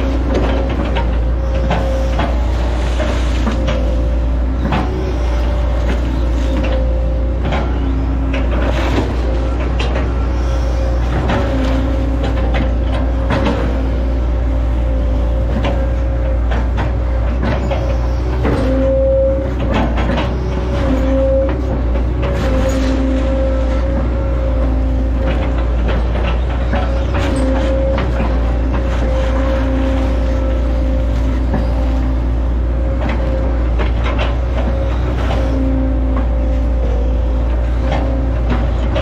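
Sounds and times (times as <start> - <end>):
excavator diesel engine running: 0.0 - 39.0
hydraulic whine: 0.0 - 39.0.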